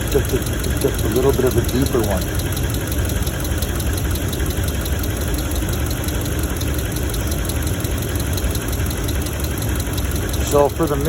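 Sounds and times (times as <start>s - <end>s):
engine idling with ticking: 0.0s - 11.0s.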